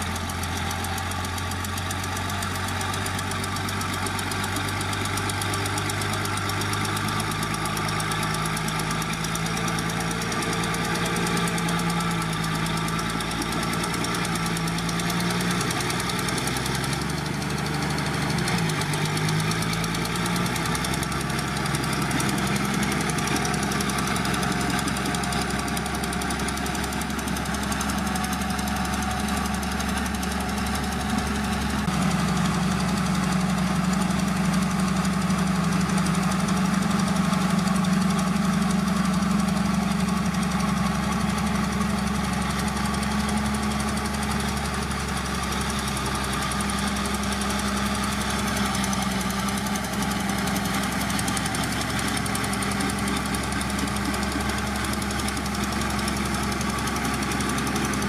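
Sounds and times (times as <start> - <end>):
continuous rattle: 0.0 - 58.0
heavy diesel engine under load: 0.0 - 58.0.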